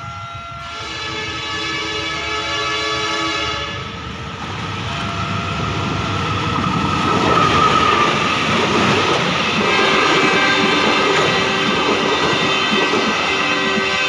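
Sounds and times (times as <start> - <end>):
locomotive rumble: 0.0 - 14.0
train wheels on rails: 0.0 - 14.0.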